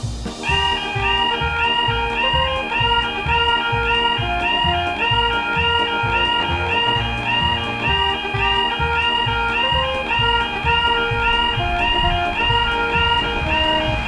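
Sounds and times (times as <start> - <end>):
music with bass beat: 0.0 - 14.0
plucked guitar-like notes: 0.0 - 14.0
bright high repeating note: 0.4 - 14.0.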